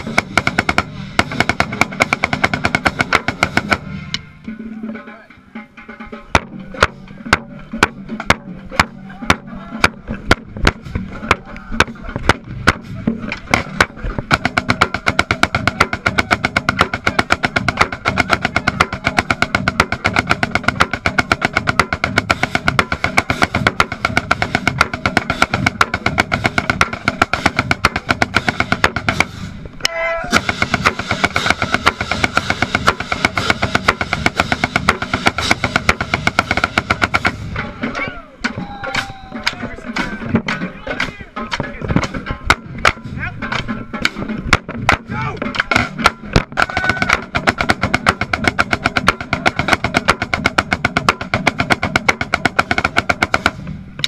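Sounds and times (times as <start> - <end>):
marching snare drum: 0.0 - 29.6, 30.3 - 53.8
marching band: 0.0 - 54.0.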